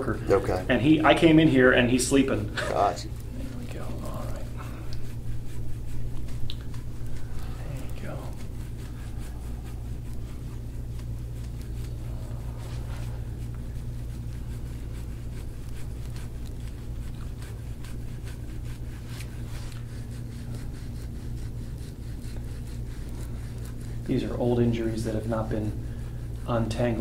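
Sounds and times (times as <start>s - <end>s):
scraping tool on oiled skin: 0.0s - 27.0s
steady low hum: 0.0s - 27.0s.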